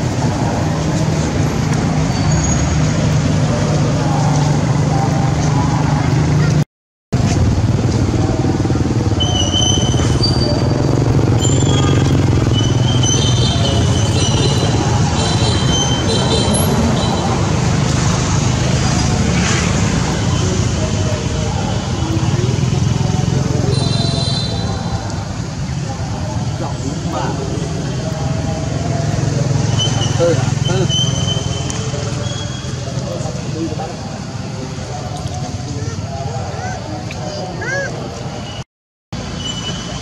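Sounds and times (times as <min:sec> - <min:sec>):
road traffic rumble: 0:00.0 - 0:38.6, 0:39.2 - 0:40.0.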